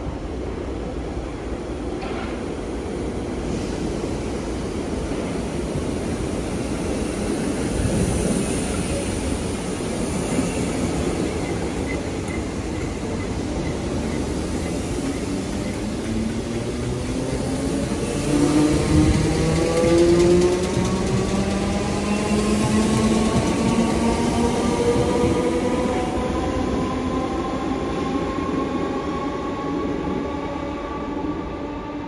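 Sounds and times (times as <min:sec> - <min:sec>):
train wheels rumbling on rail: 0:01.0 - 0:32.0.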